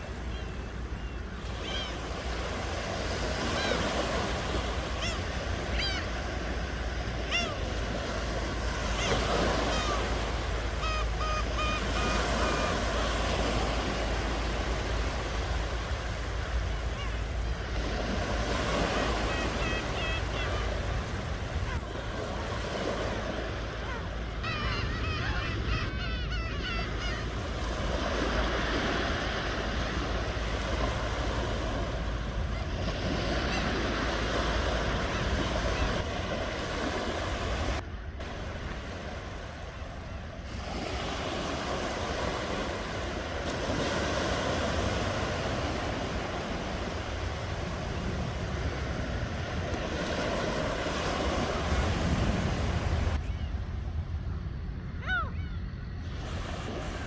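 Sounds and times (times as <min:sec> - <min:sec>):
faint high gliding call: 0:00.0 - 0:57.0
ocean waves washing on shore: 0:00.0 - 0:57.0.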